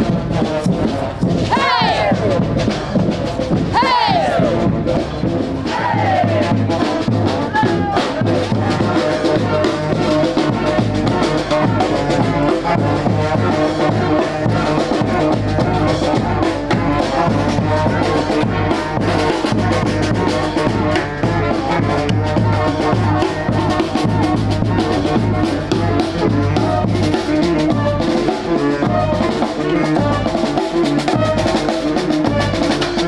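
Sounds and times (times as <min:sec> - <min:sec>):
brass band playing: 0:00.0 - 0:33.0
steady drumbeat: 0:00.0 - 0:33.0.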